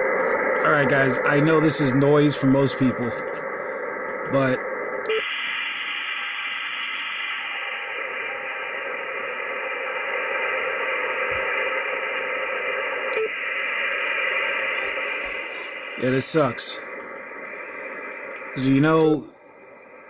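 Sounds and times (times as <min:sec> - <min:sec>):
faint steady tones: 0:00.0 - 0:20.0
radio static and hiss: 0:00.0 - 0:20.0.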